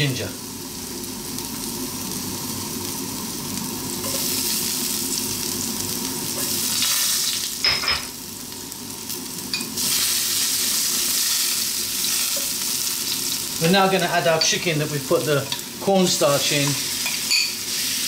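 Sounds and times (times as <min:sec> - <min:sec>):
garlic sizzling in hot oil: 0:00.0 - 0:18.0.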